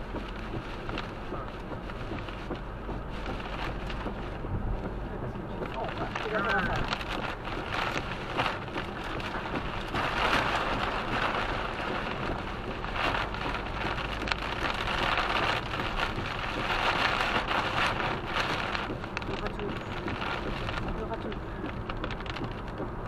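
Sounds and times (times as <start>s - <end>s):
heavy rain beating on vehicle: 0.0s - 23.0s.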